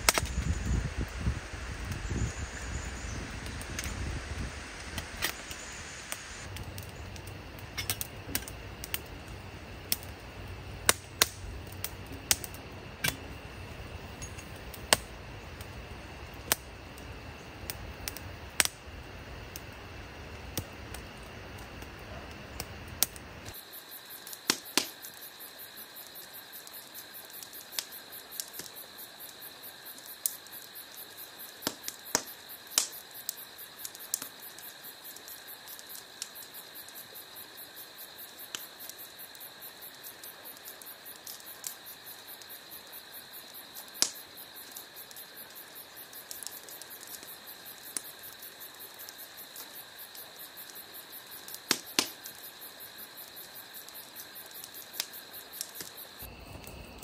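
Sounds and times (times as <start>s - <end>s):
campfire crackling and popping: 0.0s - 57.0s
insects chirping: 0.0s - 57.0s.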